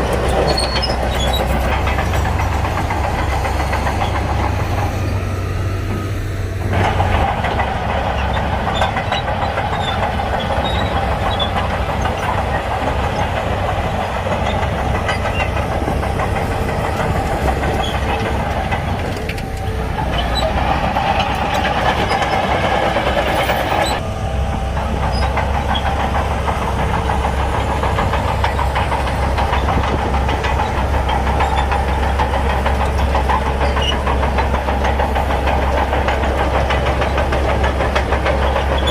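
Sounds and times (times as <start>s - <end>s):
bulldozer diesel engine rumbling: 0.0s - 38.9s
harsh engine rattling: 0.0s - 38.9s.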